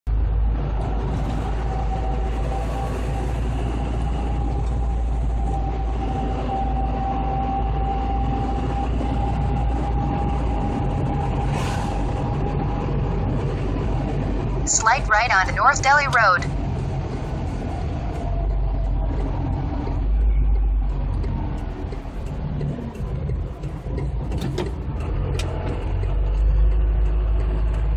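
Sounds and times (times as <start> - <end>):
engine and tyre rumble: 0.0 - 27.9.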